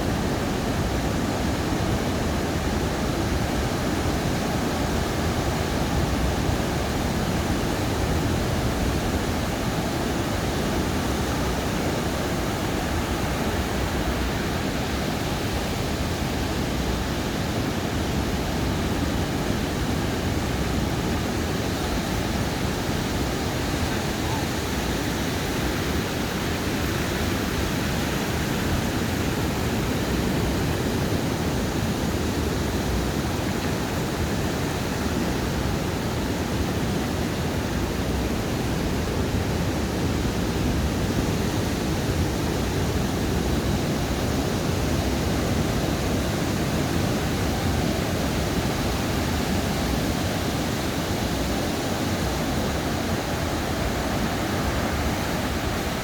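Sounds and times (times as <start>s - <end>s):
ocean surf washing on beach: 0.0s - 56.0s.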